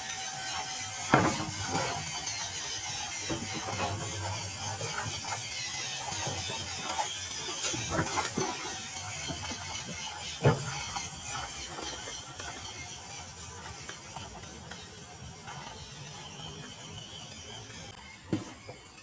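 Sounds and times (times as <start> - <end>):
toy truck motor whirring: 0.0 - 19.0.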